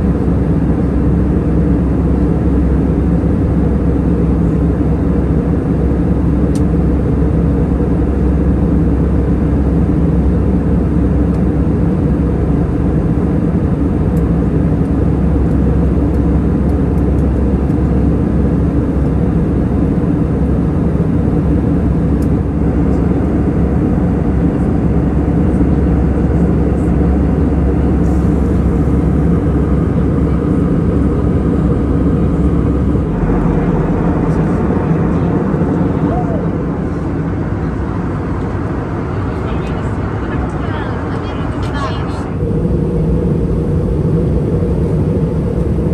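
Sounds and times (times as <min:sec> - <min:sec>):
airplane cabin drone: 0:00.0 - 0:45.9.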